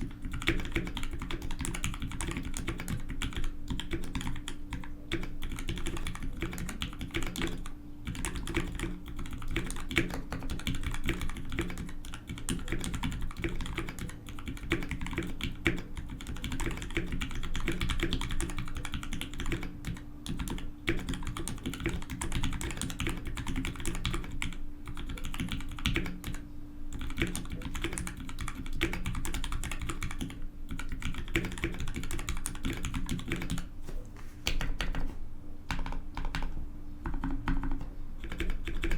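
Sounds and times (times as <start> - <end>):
mechanical keyboard typing: 0.0 - 33.7, 35.7 - 36.5, 37.2 - 38.9.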